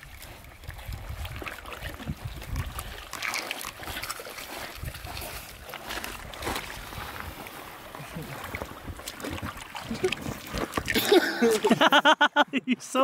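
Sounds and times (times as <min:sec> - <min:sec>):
small water splashes: 0:00.0 - 0:12.0.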